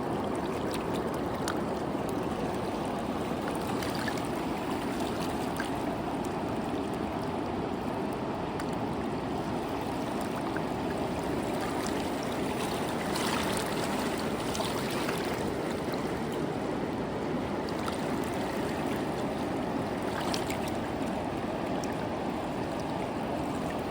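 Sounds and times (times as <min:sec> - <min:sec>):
stream water flowing: 0:00.0 - 0:23.9
water splashes: 0:00.0 - 0:23.9.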